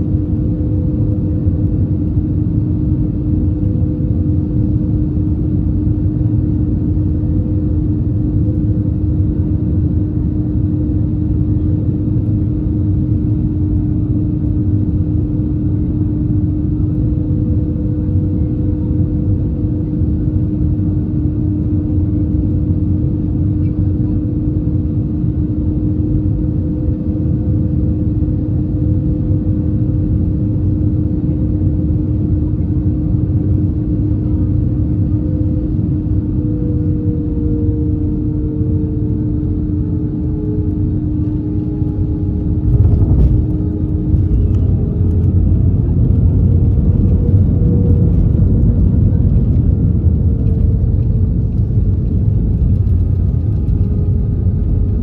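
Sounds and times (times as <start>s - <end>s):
airplane cabin rumble: 0.0s - 55.0s
humming tones: 0.0s - 55.0s.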